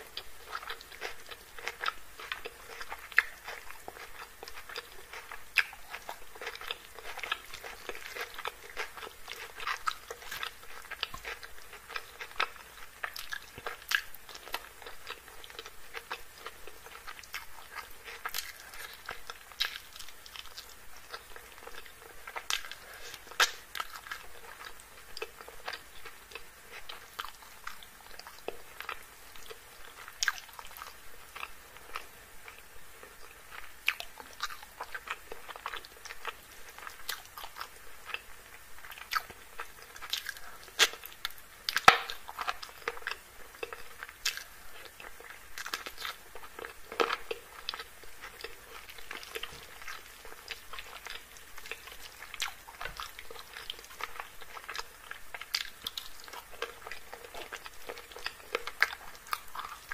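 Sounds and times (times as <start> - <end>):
chewing and wet mouth sounds: 0.0 - 59.9.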